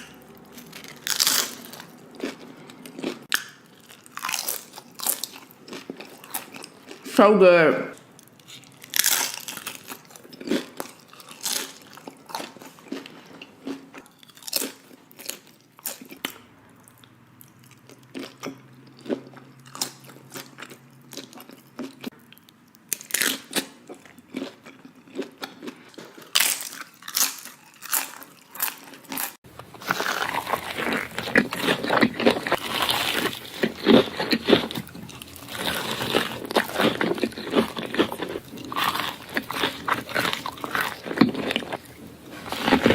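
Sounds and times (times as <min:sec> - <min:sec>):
crunchy chewing: 0:00.0 - 0:07.1, 0:08.1 - 0:42.9.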